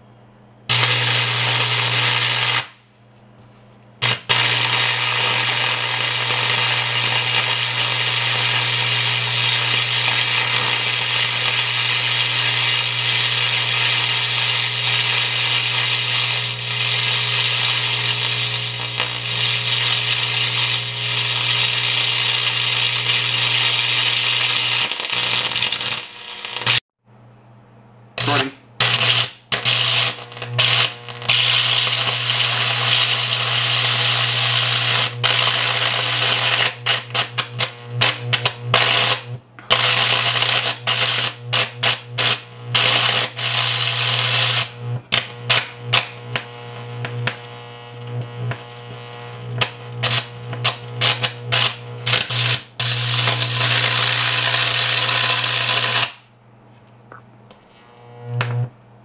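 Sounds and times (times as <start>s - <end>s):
electric arc buzzing and crackling: 0.7s - 2.8s, 4.0s - 26.8s, 28.2s - 56.3s, 57.8s - 58.7s.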